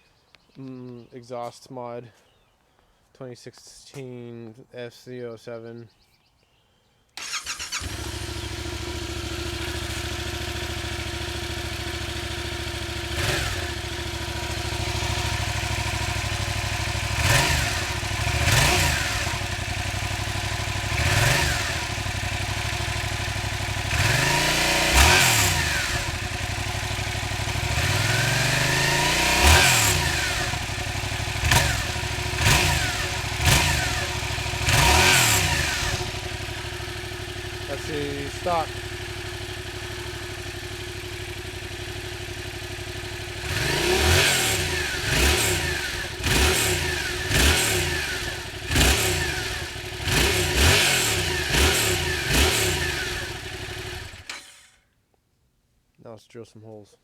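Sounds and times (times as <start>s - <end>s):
motorcycle engine idling and revving: 7.2s - 54.8s.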